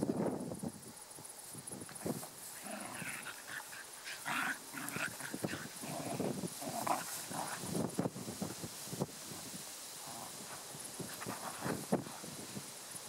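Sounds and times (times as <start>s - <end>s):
scuffling in grass: 1.2s - 13.0s.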